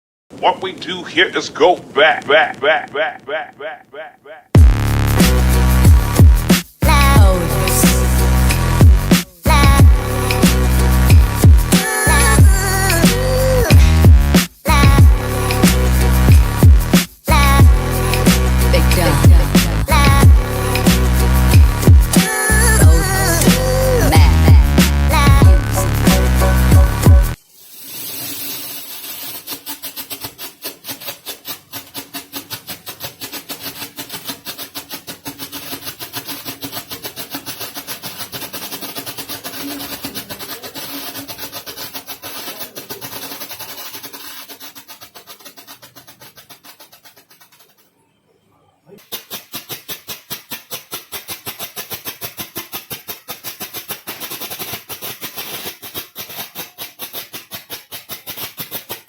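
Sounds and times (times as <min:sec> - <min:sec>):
firecrackers popping: 0:00.3 - 0:48.0, 0:49.0 - 0:59.0.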